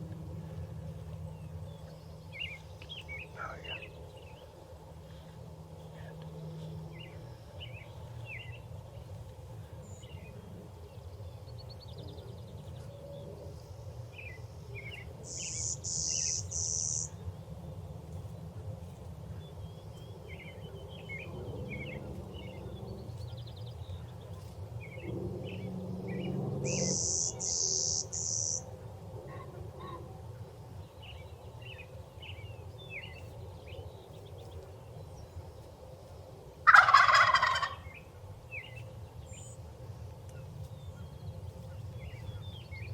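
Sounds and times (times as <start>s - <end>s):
low background rumble: 0.0s - 42.9s
songbirds chirping: 0.0s - 42.9s.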